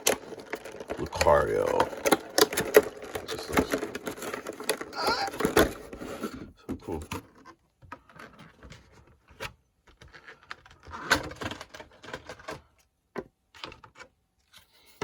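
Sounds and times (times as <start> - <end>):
cards and packaging rustling: 0.0 - 15.0.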